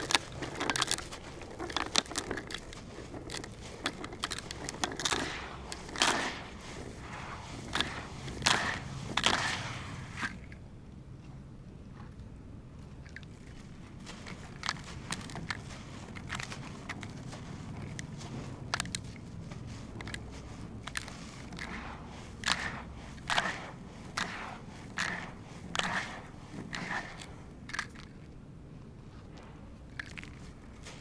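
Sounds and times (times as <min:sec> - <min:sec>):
cement chunks crunching: 0:00.0 - 0:10.4, 0:13.4 - 0:28.2.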